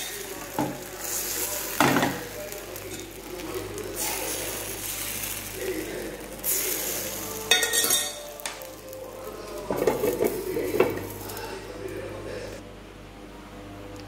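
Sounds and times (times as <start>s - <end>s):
batter sizzling in a pan: 0.0s - 11.7s.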